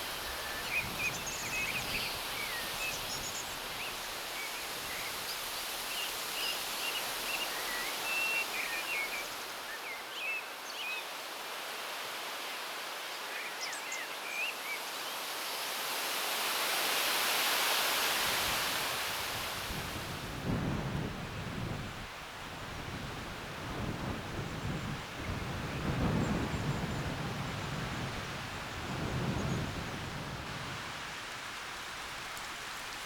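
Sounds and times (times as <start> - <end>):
outdoor ambience hiss: 0.0 - 33.0.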